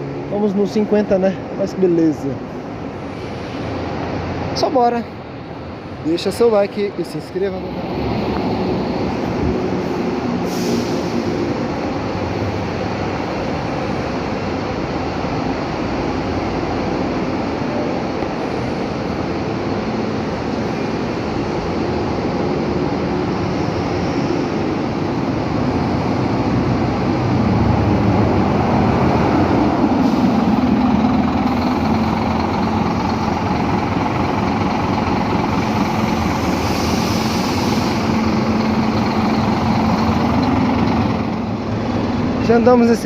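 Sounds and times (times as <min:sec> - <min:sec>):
bus engine running: 0:00.0 - 0:43.0
road and body noise: 0:00.0 - 0:43.0.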